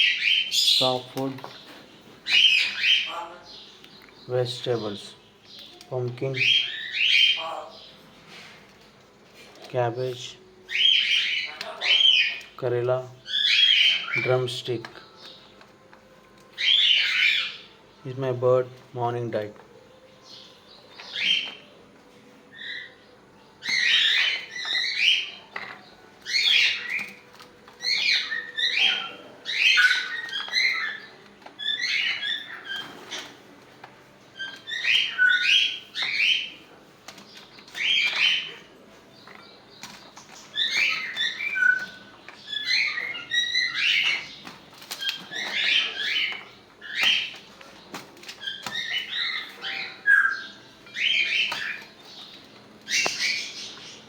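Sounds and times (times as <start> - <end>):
parrots chattering and chirping: 0.0 - 18.2, 19.4 - 54.0.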